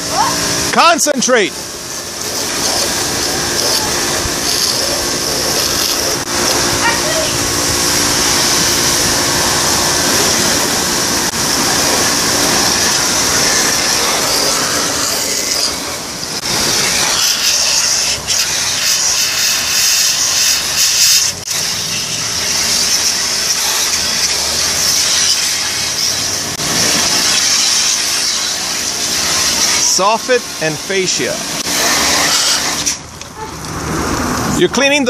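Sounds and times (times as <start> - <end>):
pump motor droning: 0.0 - 34.6
high-pressure water jet hissing: 0.0 - 35.0.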